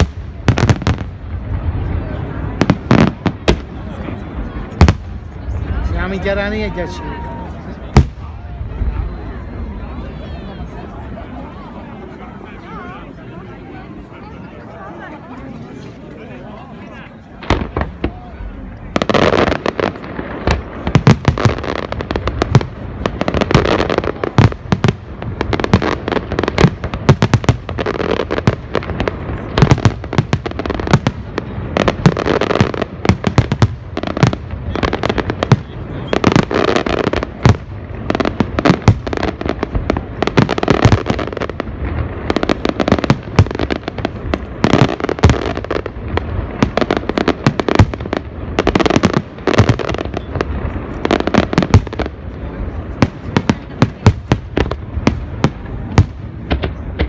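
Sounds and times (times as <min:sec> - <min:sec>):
fireworks bursting and crackling: 0:00.0 - 0:10.2, 0:17.3 - 0:57.0.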